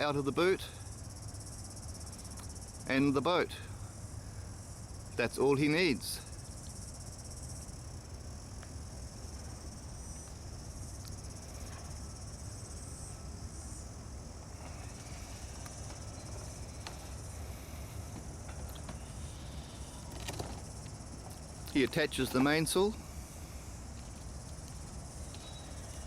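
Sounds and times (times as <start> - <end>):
high-pitched insect chorus: 0.0 - 26.0
low outdoor rumble: 0.0 - 26.0.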